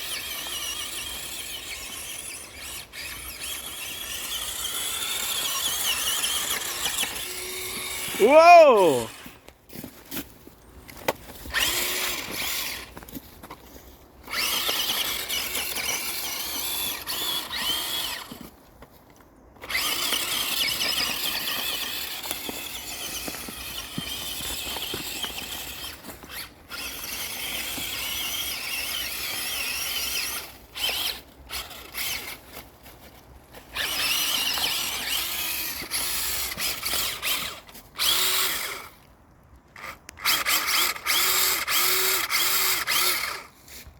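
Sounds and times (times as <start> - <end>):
toy truck motor whining: 0.0 - 9.5, 11.0 - 13.5, 14.2 - 18.5, 19.6 - 39.1, 39.8 - 43.9.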